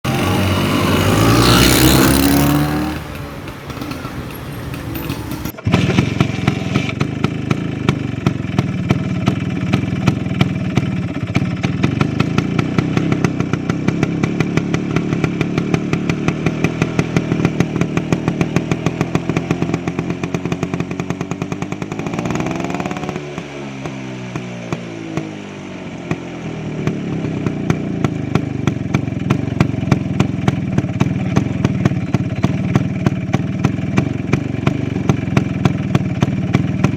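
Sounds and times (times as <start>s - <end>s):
scooter two-stroke engine running: 0.0s - 36.9s.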